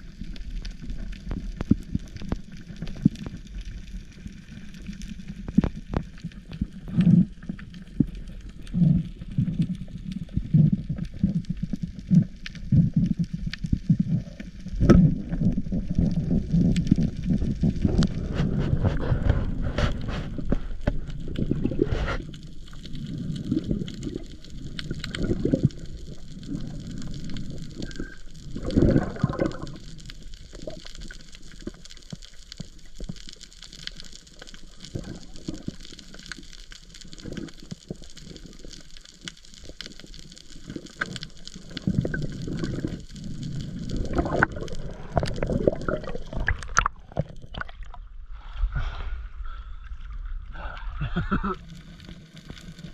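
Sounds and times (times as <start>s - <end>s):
water gurgling and sloshing: 0.0s - 50.6s.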